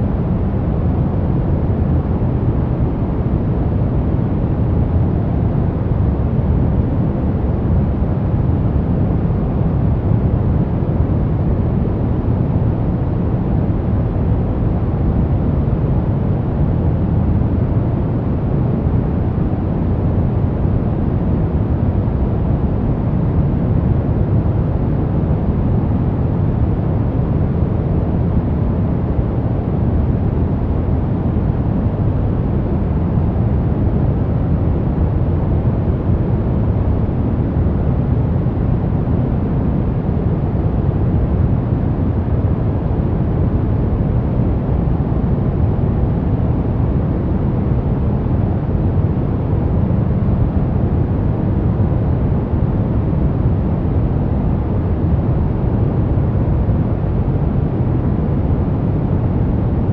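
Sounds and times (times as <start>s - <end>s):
low hiss-rumble noise: 0.0s - 59.9s.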